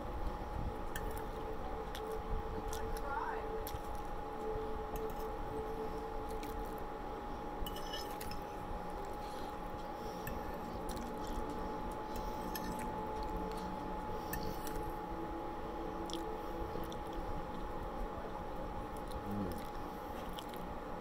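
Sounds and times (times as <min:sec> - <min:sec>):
faint steady hum: 0:00.0 - 0:21.0
wet chewing sounds: 0:00.3 - 0:06.9, 0:07.7 - 0:15.0, 0:16.0 - 0:18.0, 0:18.9 - 0:20.7.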